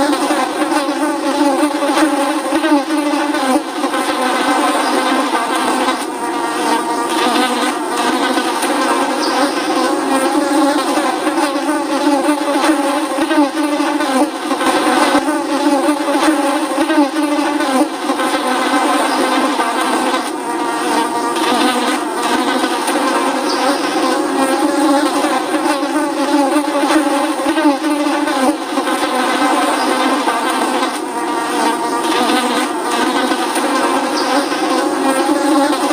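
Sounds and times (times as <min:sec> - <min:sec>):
flies buzzing: 0:00.0 - 0:35.9.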